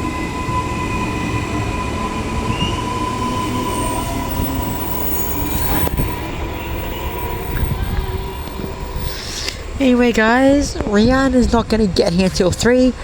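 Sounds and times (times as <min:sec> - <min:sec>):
electric train rumble and whine: 0:00.0 - 0:13.0.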